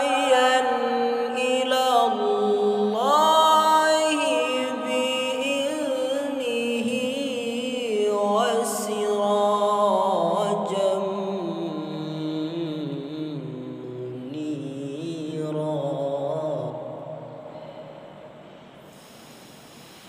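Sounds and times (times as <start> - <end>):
man reciting melodically: 0.0 - 17.4.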